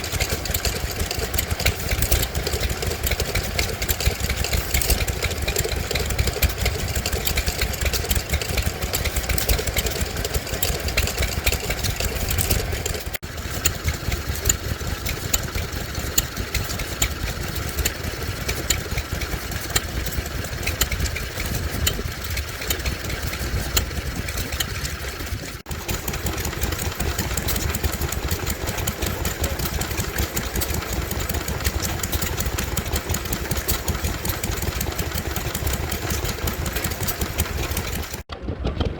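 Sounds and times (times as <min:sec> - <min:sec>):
stationary oil engines running: 0:00.0 - 0:38.9.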